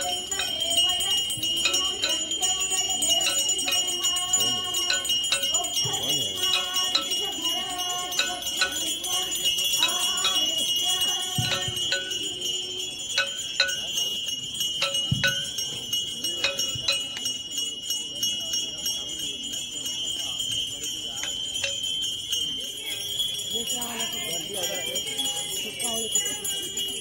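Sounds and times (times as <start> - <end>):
brass hand bells ringing: 0.0 - 27.0
voices chanting: 0.0 - 27.0.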